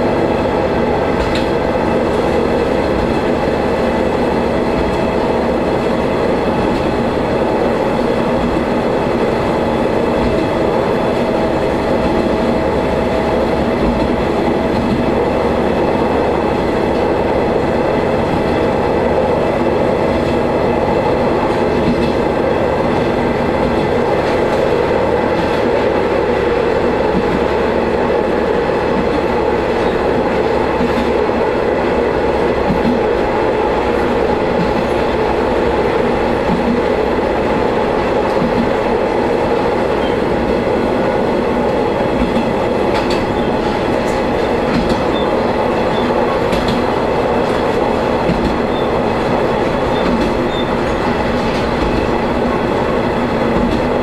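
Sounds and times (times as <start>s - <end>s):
railcar engine drone: 0.0s - 54.0s
wheels rumbling on rail: 0.0s - 54.0s.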